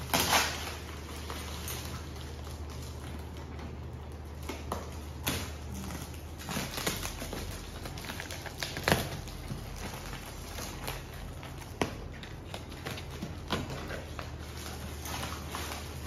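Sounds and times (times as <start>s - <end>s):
cardboard crackling: 0.0s - 16.0s
tape rustling: 0.0s - 16.0s.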